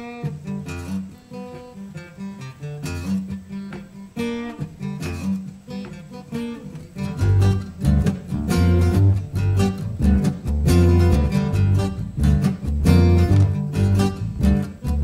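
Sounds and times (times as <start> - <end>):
acoustic bass guitar: 0.0 - 15.0
acoustic guitars playing: 0.0 - 15.0.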